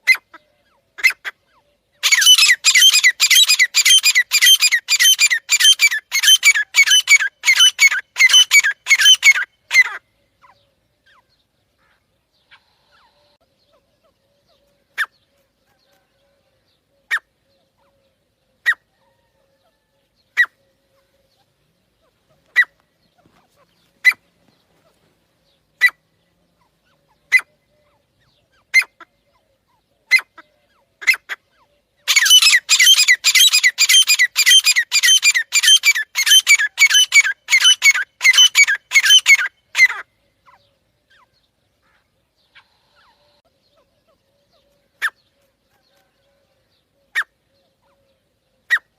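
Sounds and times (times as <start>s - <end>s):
francolins calling: 0.0s - 48.9s.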